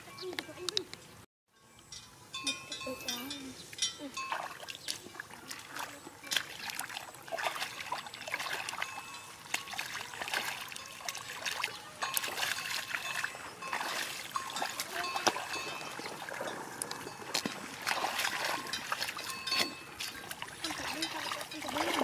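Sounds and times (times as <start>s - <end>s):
wading in muddy water: 4.0s - 22.0s
small splashes and drips: 4.3s - 22.0s.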